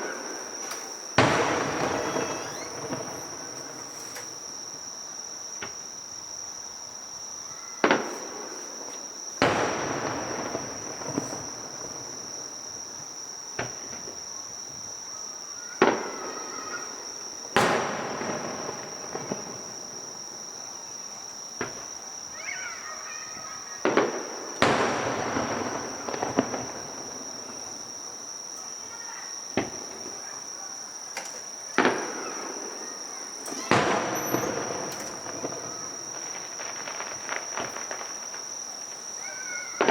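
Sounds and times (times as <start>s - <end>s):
fireworks bursting and crackling: 0.0s - 4.9s, 7.8s - 14.3s, 15.8s - 22.4s, 23.8s - 39.9s
insects trilling: 0.0s - 39.9s.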